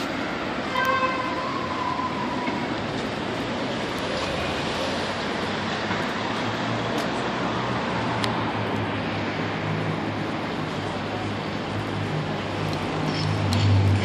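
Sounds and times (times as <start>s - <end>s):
passing vehicles: 0.0s - 14.0s.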